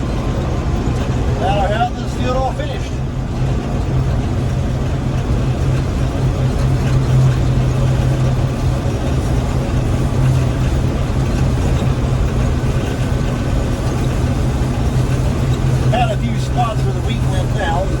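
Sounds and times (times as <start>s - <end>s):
combine engine drone: 0.0s - 18.0s.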